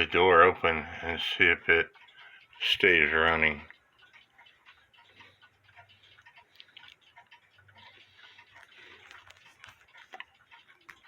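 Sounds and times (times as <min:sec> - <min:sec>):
wall clock ticking: 0:00.0 - 0:11.0.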